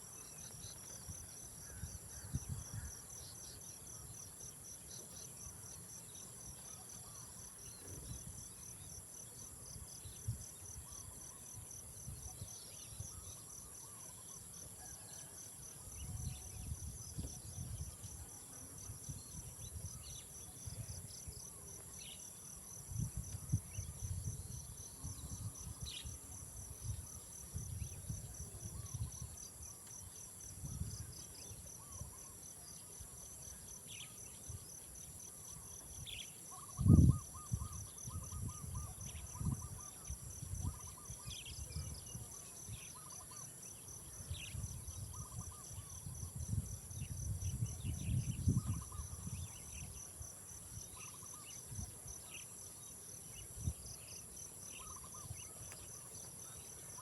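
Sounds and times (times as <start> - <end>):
insect chorus hissing and trilling: 0.0 - 57.0.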